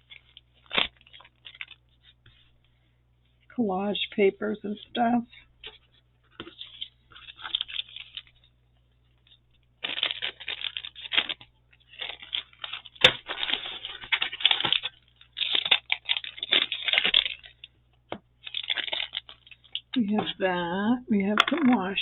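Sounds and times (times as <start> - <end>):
paper rustling and crinkling: 0.0 - 2.7, 4.9 - 20.4.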